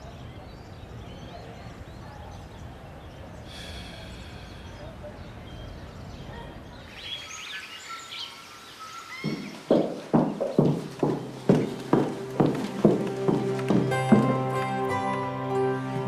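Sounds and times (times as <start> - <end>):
birds chirping faintly: 0.0 - 14.4.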